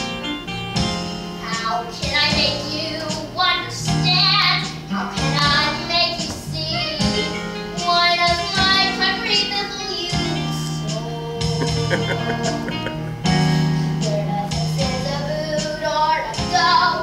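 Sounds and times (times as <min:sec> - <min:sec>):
instrumental accompaniment: 0:00.0 - 0:16.7
child singing: 0:01.4 - 0:12.7, 0:14.0 - 0:17.0.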